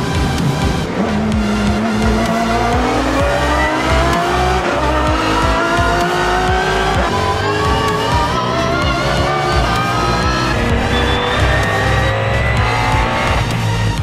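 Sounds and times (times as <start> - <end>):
background music: 0.0 - 14.0
race car engine accelerating: 0.0 - 14.0.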